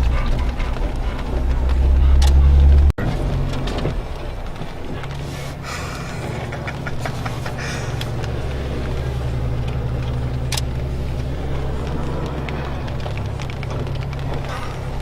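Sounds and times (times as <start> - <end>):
engine running at low speed: 0.0 - 15.0.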